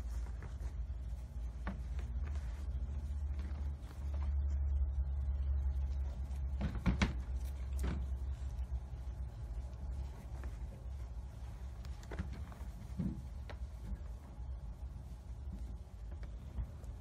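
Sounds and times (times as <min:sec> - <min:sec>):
sharp knocks and rustles: 0:00.0 - 0:17.0.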